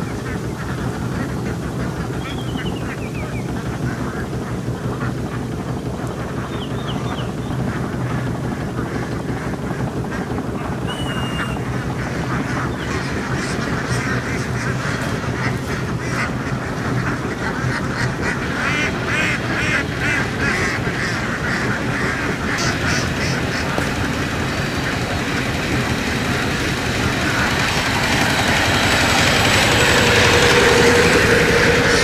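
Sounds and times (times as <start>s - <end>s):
ducks quacking: 0.0s - 32.0s
low engine hum: 0.0s - 32.0s.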